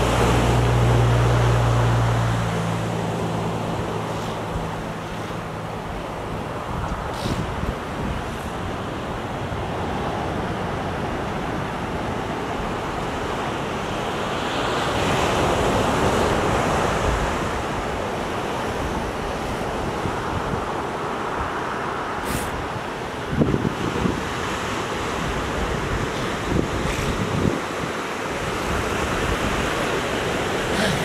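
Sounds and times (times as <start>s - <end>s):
wind buffeting microphone: 0.0s - 13.4s, 15.0s - 30.6s
ocean surf washing up beach: 0.0s - 31.0s.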